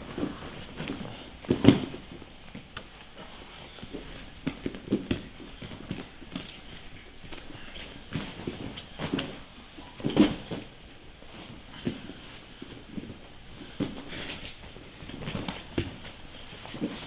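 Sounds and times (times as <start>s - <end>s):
bodies thumping on a mat: 0.0s - 17.0s.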